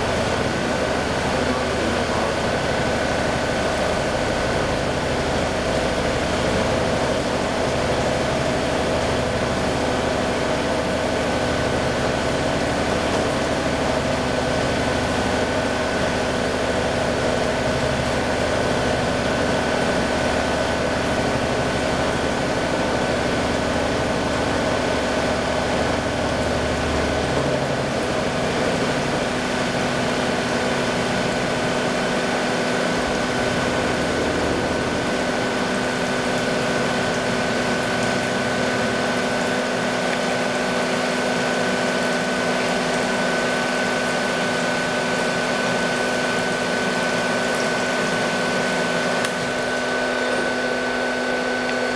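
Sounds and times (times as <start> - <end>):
coolant hissing and splashing: 0.0 - 51.9.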